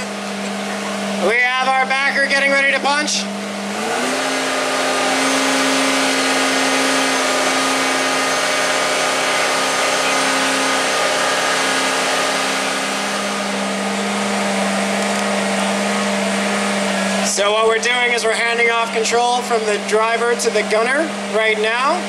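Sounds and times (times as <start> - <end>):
engine and hydraulic pump whine: 0.0 - 22.0.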